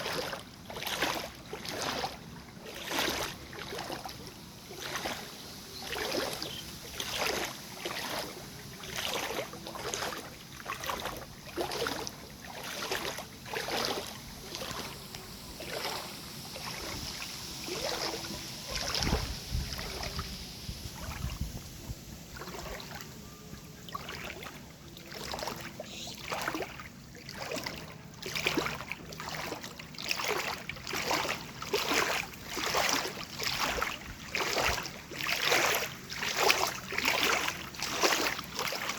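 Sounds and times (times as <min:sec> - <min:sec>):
water splashing and swishing: 0:00.0 - 0:38.9.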